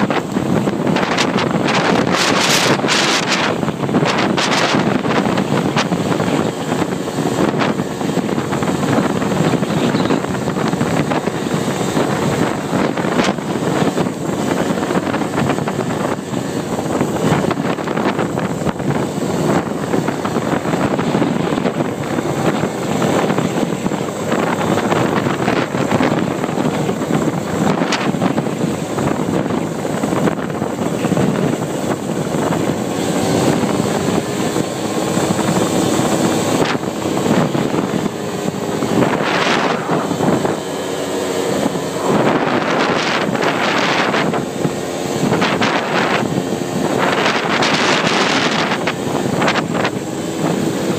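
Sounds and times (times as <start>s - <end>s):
atv engine running: 0.0s - 50.9s
wind buffeting microphone: 0.0s - 50.9s.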